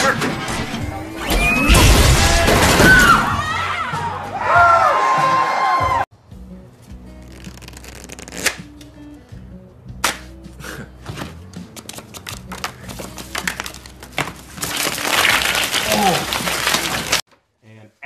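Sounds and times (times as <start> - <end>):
plucked background music: 0.0 - 17.2.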